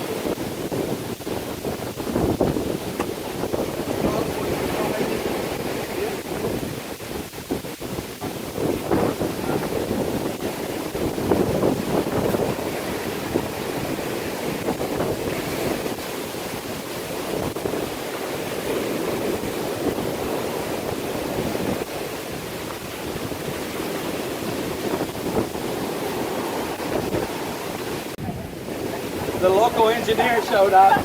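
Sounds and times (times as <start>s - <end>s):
ocean surf waves: 0.0s - 31.0s
wind on microphone: 0.0s - 31.0s.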